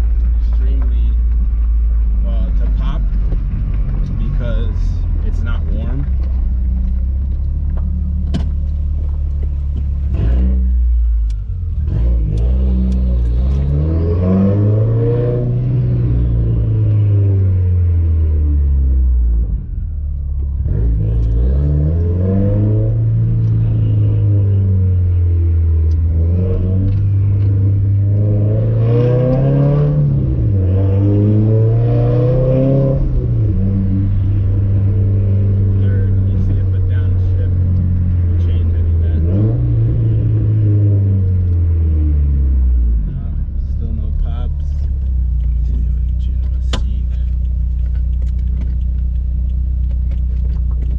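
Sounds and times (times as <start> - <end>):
car engine revving while driving: 0.0 - 50.9.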